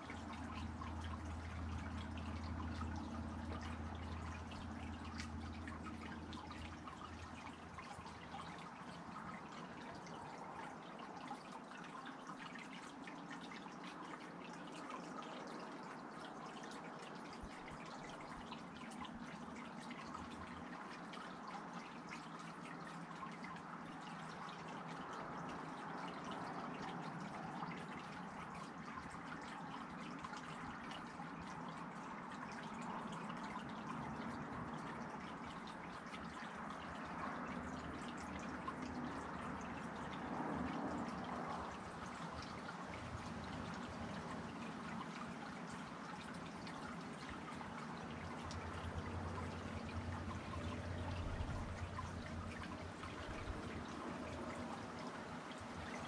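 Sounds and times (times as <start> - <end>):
water dripping and trickling: 0.0 - 56.0.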